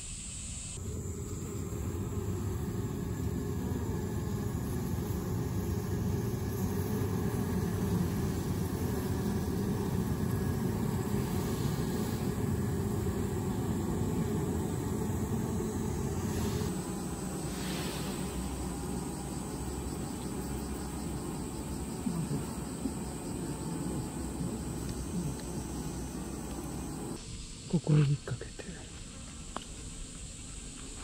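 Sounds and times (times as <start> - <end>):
bee colony humming: 0.6 - 31.0.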